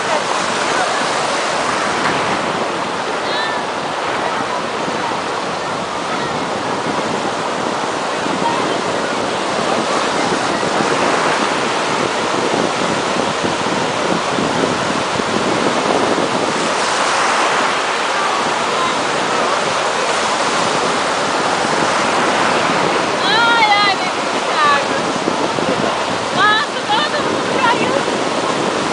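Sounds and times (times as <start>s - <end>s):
water rushing and splashing: 0.0s - 28.9s
wind buffeting microphone: 0.0s - 28.9s.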